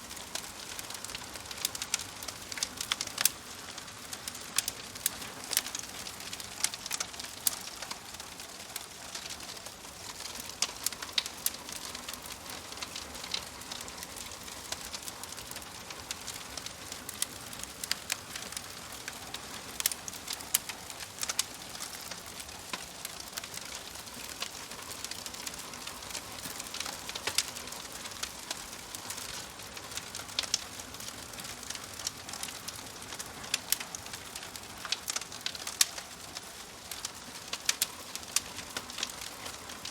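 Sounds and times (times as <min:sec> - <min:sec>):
fire crackling and popping: 0:00.0 - 0:39.9
wood fire hissing: 0:00.0 - 0:39.9.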